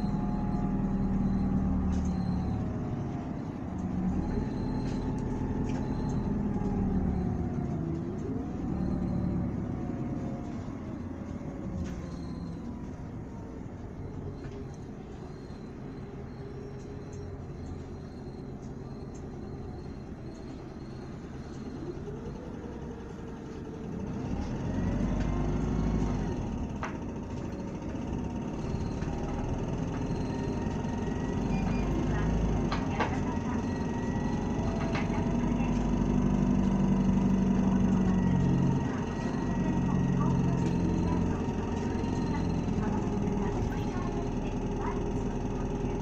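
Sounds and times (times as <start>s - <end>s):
bus diesel engine droning: 0.0s - 46.0s.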